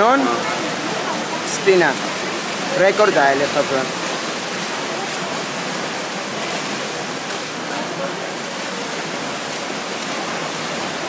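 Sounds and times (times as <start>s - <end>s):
faint voices: 0.0s - 11.0s
swimmers splashing: 0.0s - 11.0s.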